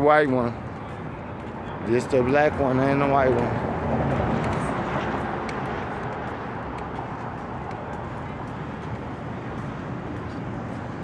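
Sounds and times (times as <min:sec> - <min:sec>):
distant traffic: 0:00.0 - 0:11.0.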